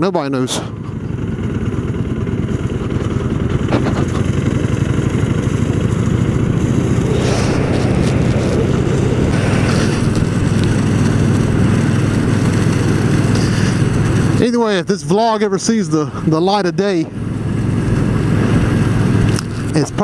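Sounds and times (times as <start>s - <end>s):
motorcycle engine throbbing: 0.0s - 20.0s.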